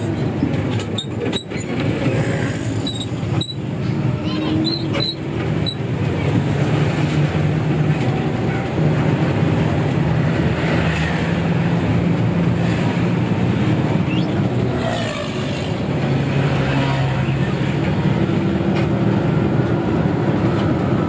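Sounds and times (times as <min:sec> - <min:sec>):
bus engine running: 0:00.0 - 0:21.0
road noise: 0:00.0 - 0:21.0.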